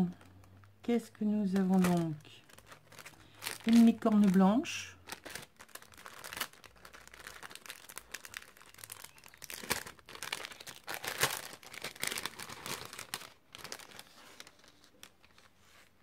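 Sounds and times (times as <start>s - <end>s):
plastic sleeve crinkling: 0.0s - 16.0s.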